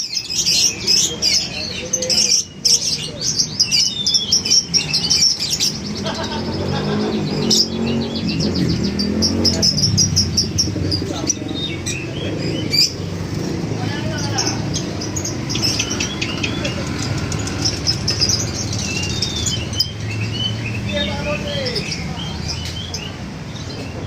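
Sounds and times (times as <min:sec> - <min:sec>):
lovebirds chirping: 0:00.0 - 0:24.0.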